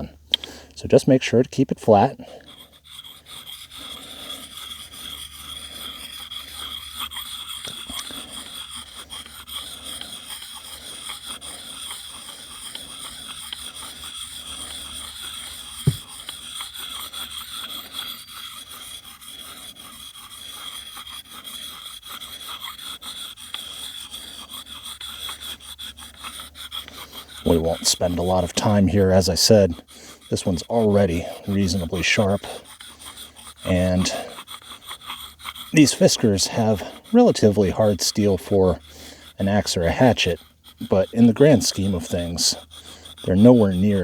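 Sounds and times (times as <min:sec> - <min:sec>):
sharpening stone scraping hatchet edge: 0:02.2 - 0:44.0.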